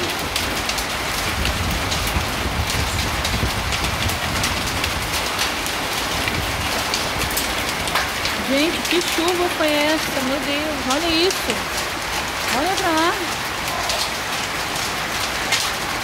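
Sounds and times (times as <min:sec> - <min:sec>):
heavy rain and hail on tile roof: 0:00.0 - 0:16.0.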